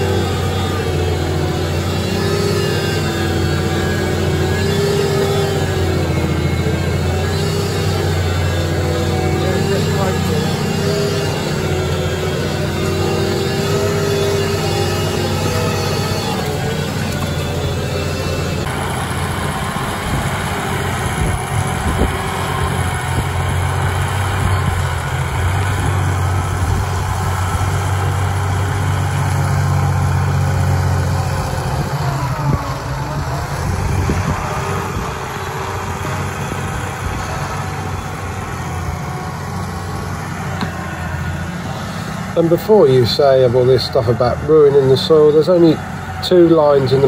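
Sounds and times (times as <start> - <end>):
tractor engine under load: 0.0 - 47.0.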